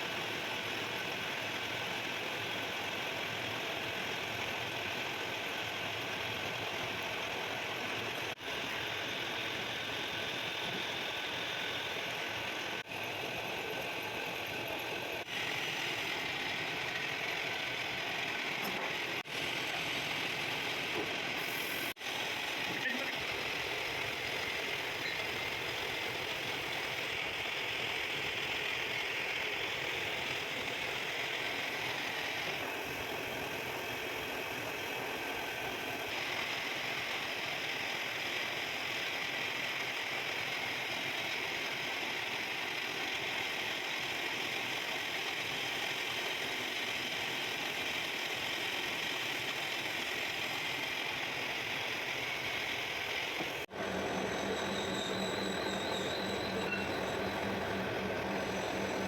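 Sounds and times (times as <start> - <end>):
metal-cutting machine running: 1.2 - 59.0.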